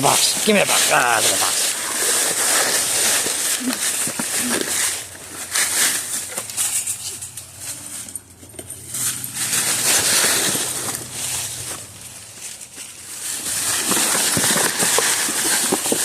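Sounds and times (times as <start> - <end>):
cardboard rustling and scraping: 0.0 - 16.0
dogs chewing cardboard box: 0.0 - 16.0.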